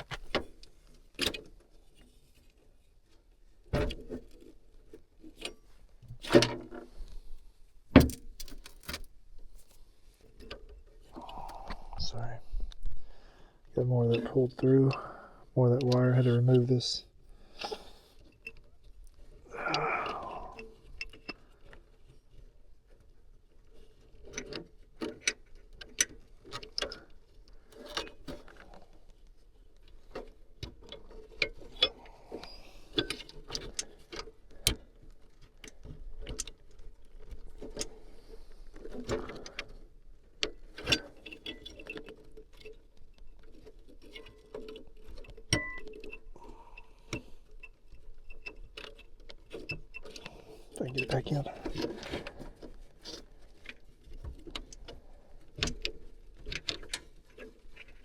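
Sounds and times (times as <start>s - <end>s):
clicks and rattles of wiring: 0.0s - 7.2s, 7.8s - 12.9s, 13.7s - 58.0s.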